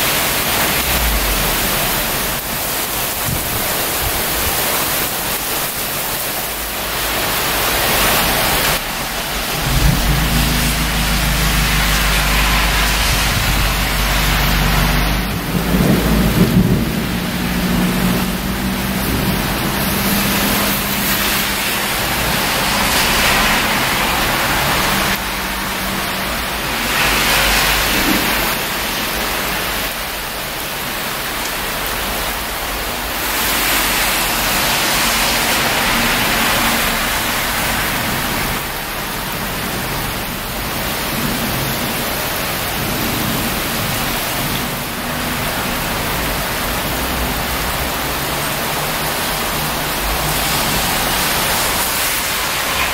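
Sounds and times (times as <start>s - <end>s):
heavy rain on street: 0.0s - 52.9s.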